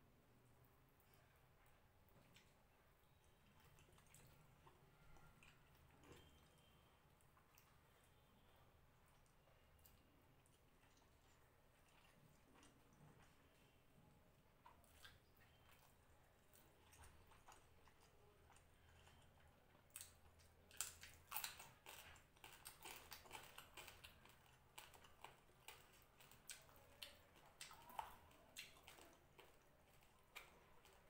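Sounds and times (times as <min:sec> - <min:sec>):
chewing with wet mouth clicks: 0:01.0 - 0:31.0.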